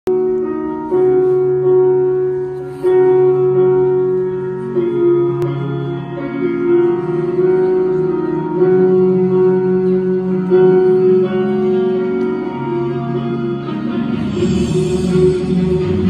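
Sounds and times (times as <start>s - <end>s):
slow sustained chords: 0.1s - 16.0s.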